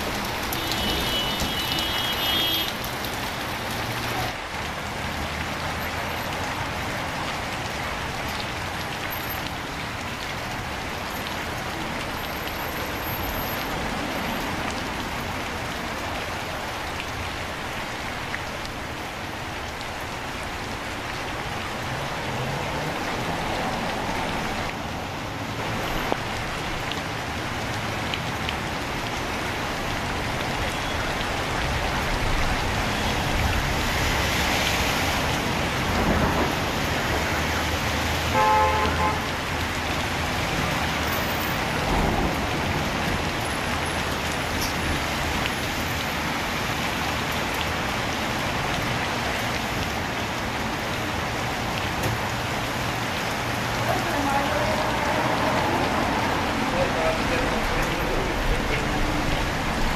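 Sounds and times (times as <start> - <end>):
rain hissing on pavement: 0.0 - 59.9
traffic on wet road: 0.0 - 59.9.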